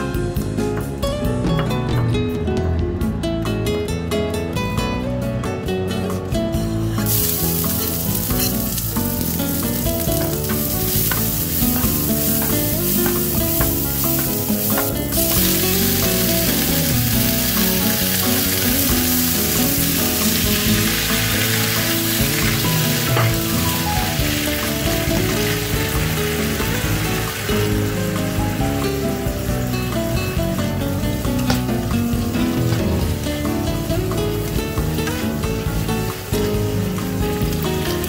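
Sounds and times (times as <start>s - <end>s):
oil sizzling in a wok: 6.8s - 38.0s.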